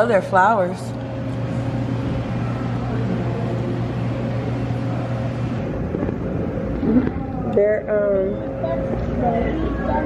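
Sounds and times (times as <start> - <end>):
broad background noise: 0.0 - 10.0
low drone: 0.0 - 10.0
steady mechanical hum: 0.0 - 10.0.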